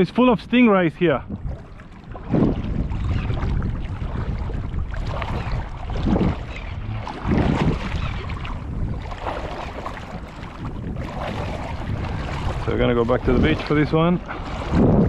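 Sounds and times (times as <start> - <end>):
wind rumbling on microphone: 0.0 - 15.0
water splashing from wading: 1.2 - 15.0.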